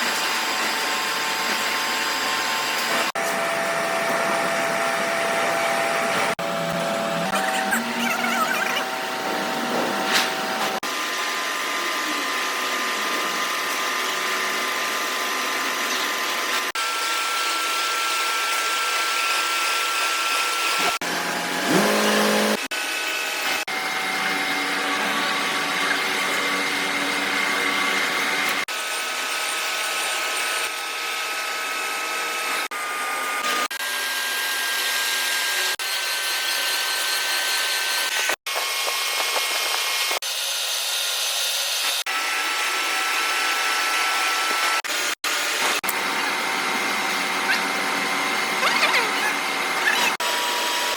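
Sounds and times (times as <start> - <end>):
power tools whining: 0.0 - 50.9
motor spinning up: 0.4 - 50.9.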